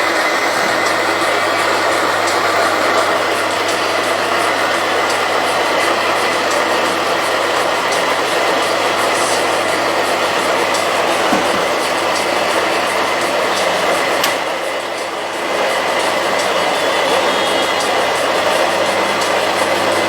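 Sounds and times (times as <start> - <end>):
machine running: 0.0 - 20.0.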